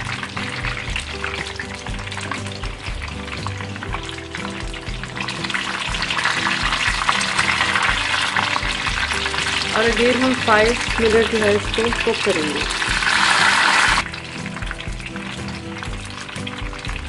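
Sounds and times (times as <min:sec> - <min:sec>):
deep-frying sizzle in oil: 0:00.0 - 0:17.0
soft background music: 0:00.0 - 0:17.0.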